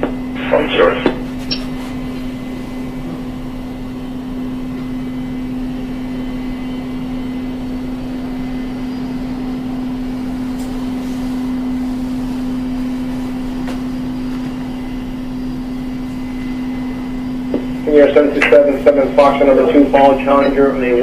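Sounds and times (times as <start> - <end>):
jet aircraft engine: 0.0 - 21.0.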